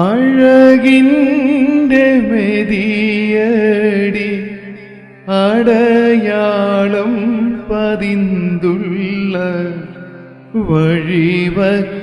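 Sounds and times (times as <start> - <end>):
man singing devotional song: 0.0 - 12.0.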